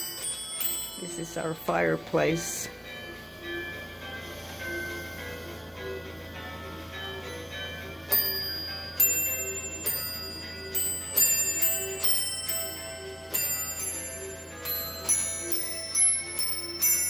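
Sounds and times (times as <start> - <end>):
bell-like chime notes: 0.0 - 17.0
soft background music: 0.0 - 17.0.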